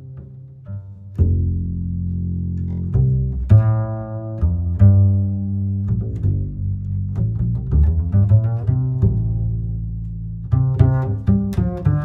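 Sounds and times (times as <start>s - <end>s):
low bowed string music: 0.0s - 12.0s.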